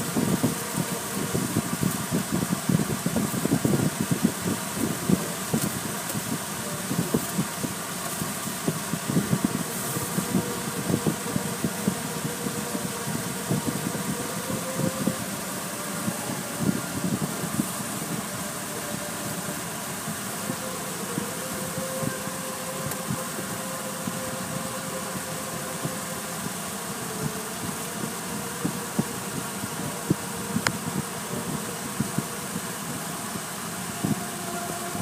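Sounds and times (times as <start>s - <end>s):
car wash mechanical hum: 0.0s - 35.0s.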